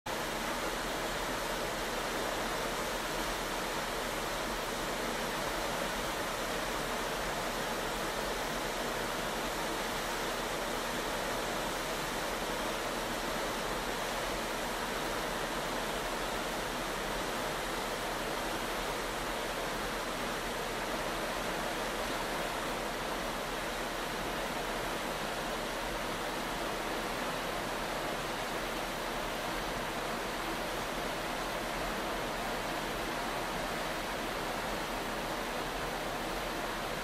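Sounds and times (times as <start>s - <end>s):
water rushing in ship wake: 0.1s - 37.0s.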